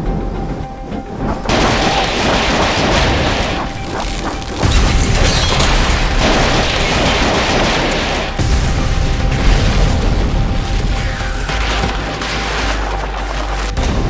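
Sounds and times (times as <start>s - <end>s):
low rumble: 0.0s - 14.0s
heavy explosion boom: 1.4s - 13.0s
loud crash: 1.4s - 13.2s.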